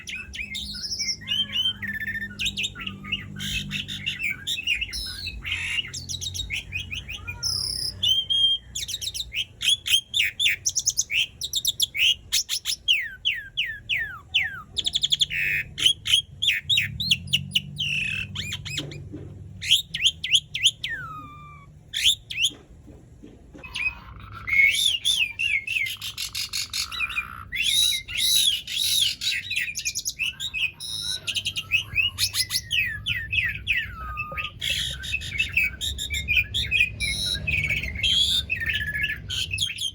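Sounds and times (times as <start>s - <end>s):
starling singing: 0.0s - 22.7s, 23.5s - 39.9s.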